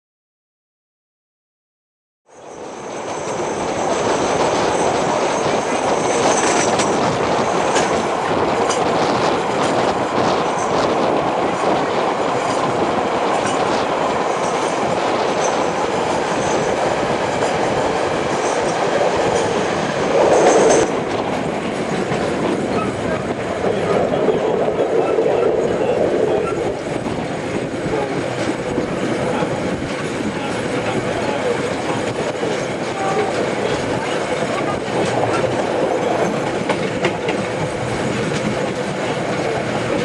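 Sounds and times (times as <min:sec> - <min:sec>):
train rumbling on track: 0:02.3 - 0:40.0.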